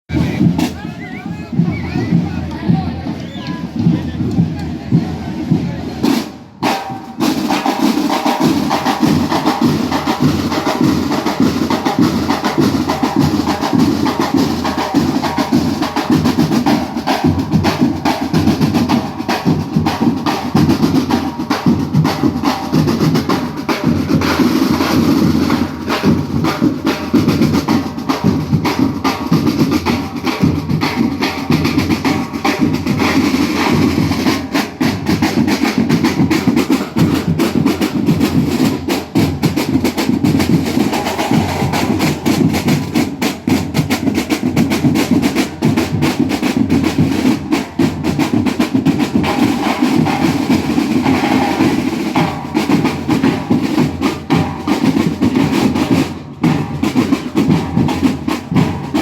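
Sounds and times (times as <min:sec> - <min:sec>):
fast dense drumming: 0:00.1 - 0:59.0.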